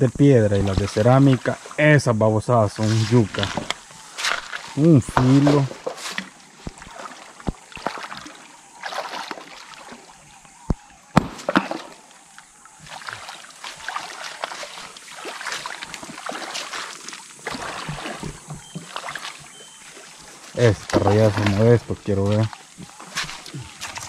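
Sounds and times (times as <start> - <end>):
river water splashing: 0.0 - 24.0.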